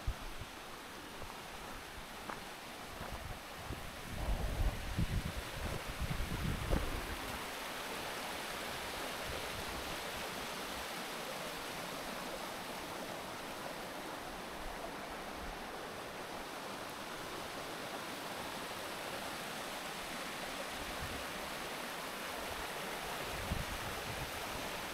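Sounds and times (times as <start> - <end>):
small waterfall rushing: 0.0 - 24.9.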